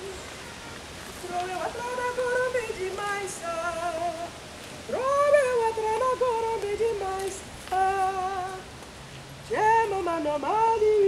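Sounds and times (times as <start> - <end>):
woman singing unaccompanied: 0.0 - 8.7, 9.5 - 11.0.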